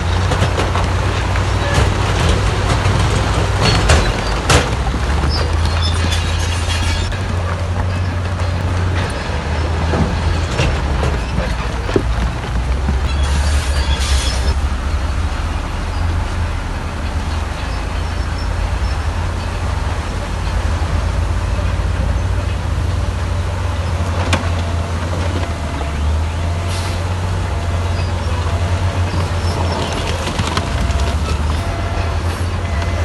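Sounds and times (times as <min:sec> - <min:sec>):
bulldozer diesel engine rumbling: 0:00.0 - 0:33.0
track clatter: 0:00.0 - 0:33.0.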